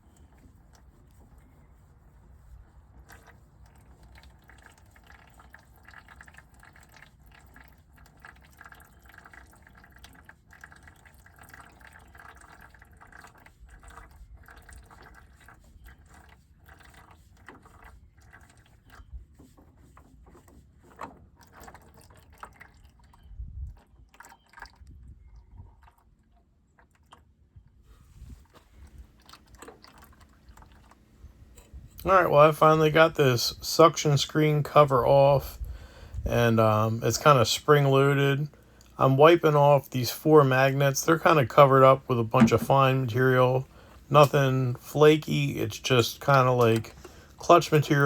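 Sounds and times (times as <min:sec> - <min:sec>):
oil dripping into a bucket: 0:00.0 - 0:48.0.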